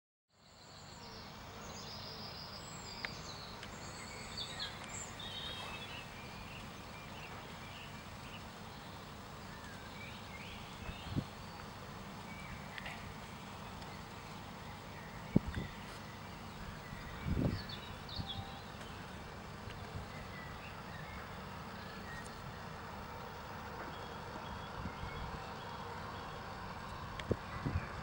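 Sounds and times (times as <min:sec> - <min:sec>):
songbirds chirping: 0:00.3 - 0:28.0
low background rush: 0:00.5 - 0:28.0.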